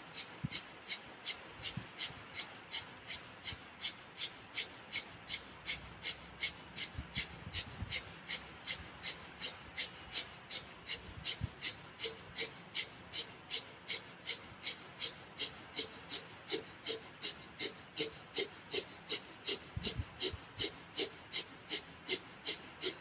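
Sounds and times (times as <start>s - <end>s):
quiet inhalations: 0.0s - 23.0s.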